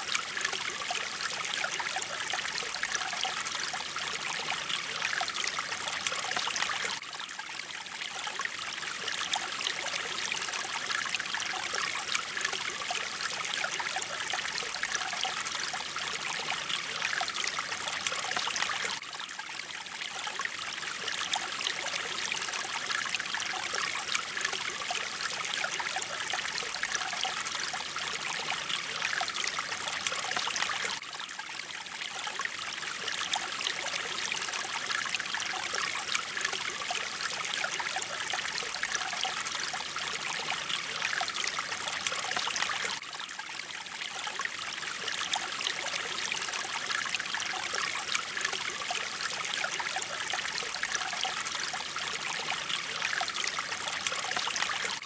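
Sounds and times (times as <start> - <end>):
stream water splashing over rocks: 0.0 - 55.0.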